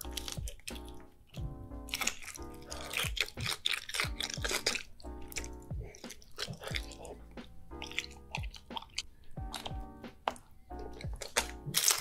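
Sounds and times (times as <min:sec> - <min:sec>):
background music with steady beat: 0:00.0 - 0:12.0
sticky mouth clicks: 0:00.0 - 0:12.0
wet chewing and smacking: 0:00.0 - 0:12.0.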